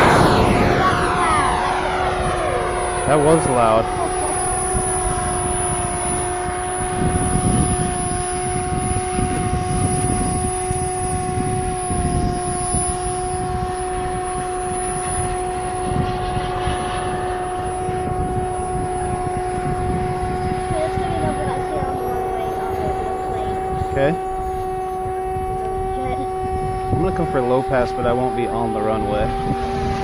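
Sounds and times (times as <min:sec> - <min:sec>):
electric ducted fans whirring: 0:00.0 - 0:30.0.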